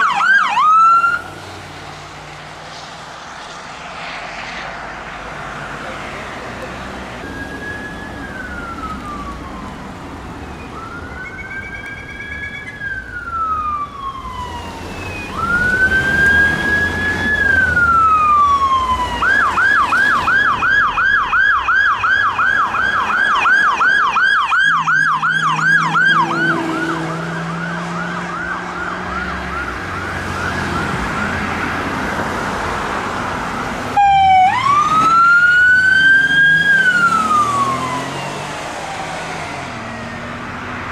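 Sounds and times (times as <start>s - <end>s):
loud close siren wail: 0.0s - 1.4s, 4.8s - 40.9s
police siren wail and yelp: 0.0s - 1.4s, 5.5s - 40.9s.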